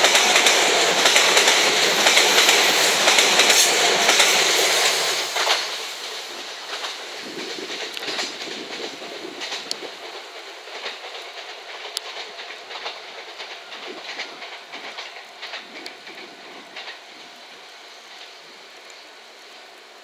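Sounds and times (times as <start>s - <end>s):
train wheels clattering: 0.0s - 19.6s
steady hiss: 0.0s - 20.0s.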